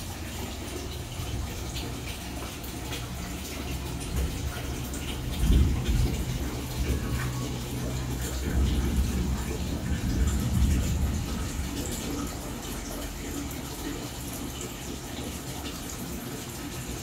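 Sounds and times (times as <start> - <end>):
aquarium water bubbling: 0.0 - 17.0.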